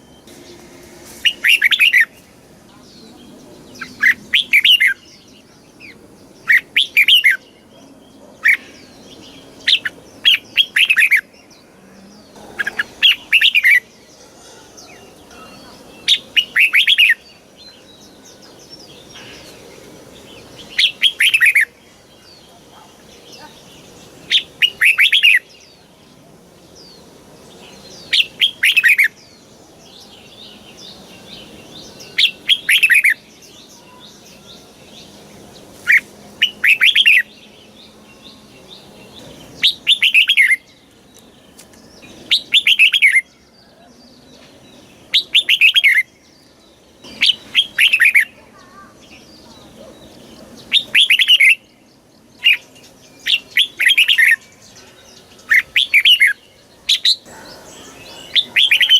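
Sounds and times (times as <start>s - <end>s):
bird singing bright phrases: 0.0s - 58.9s.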